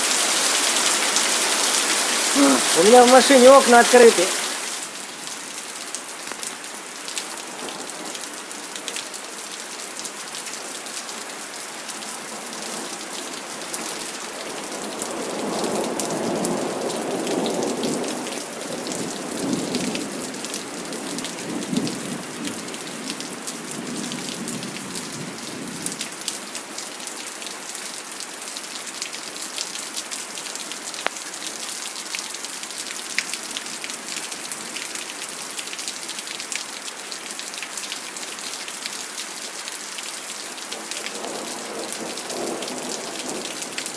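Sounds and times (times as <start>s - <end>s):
rain on paving and pool: 0.0s - 43.9s.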